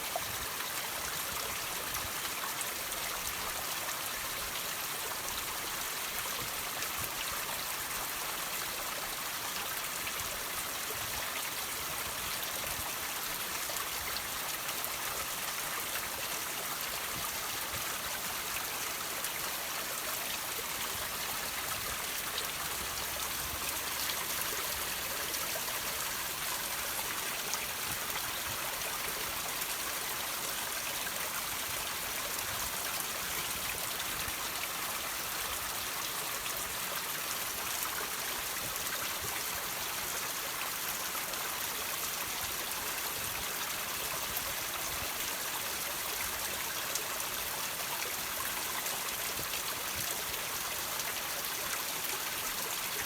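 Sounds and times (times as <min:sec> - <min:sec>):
water trickling over rocks: 0:00.0 - 0:53.0.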